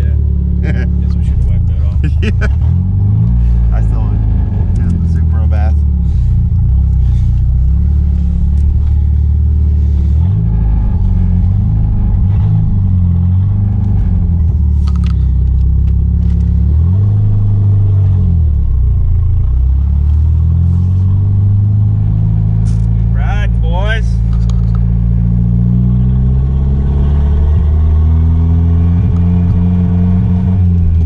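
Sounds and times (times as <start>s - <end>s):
turbocharged car engine revving: 0.0s - 31.0s.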